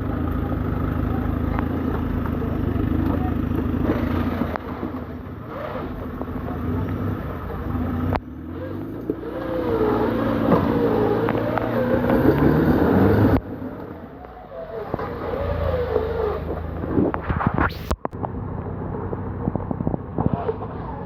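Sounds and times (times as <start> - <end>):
off-road engine revving under load: 0.0 - 21.0.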